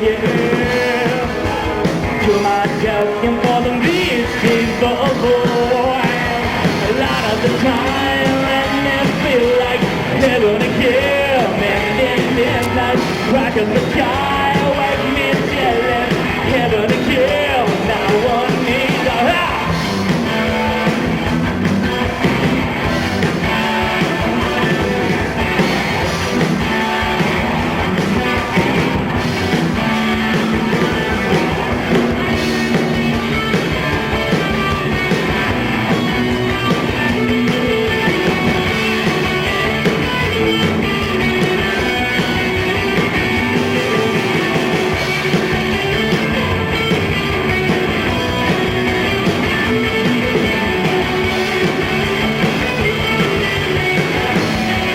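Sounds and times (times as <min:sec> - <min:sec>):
electric guitar: 0:00.0 - 0:54.9
live rock band playing: 0:00.0 - 0:54.9.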